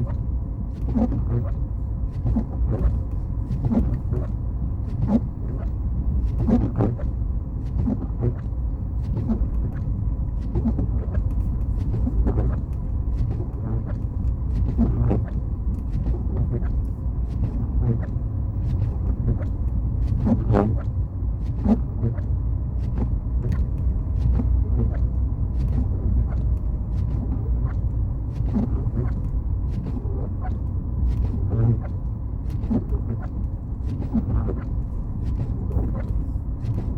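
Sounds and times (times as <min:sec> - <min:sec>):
car road and engine rumble: 0:00.0 - 0:36.9.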